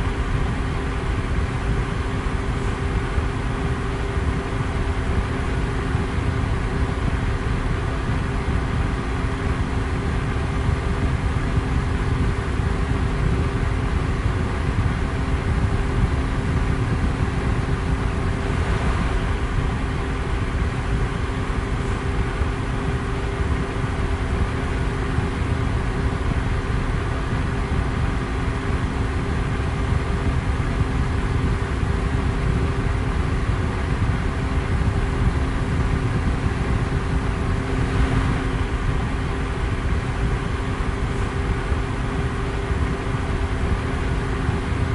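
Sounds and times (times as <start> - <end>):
electric fan air rush: 0.0 - 44.9
faint motor hum: 0.0 - 44.9.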